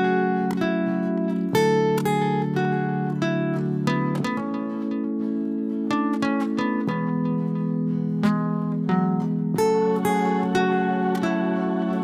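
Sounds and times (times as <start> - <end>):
acoustic guitar picking: 0.0 - 12.0.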